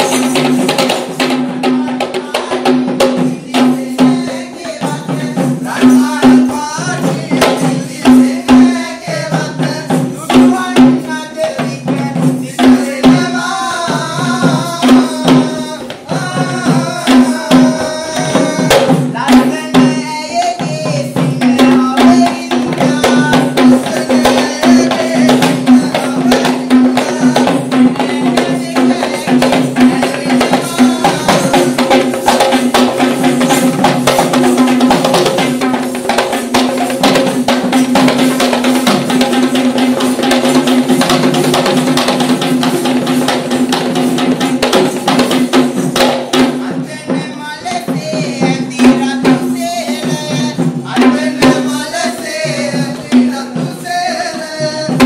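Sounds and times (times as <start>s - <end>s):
hand drums in fast rhythm: 0.0s - 55.0s.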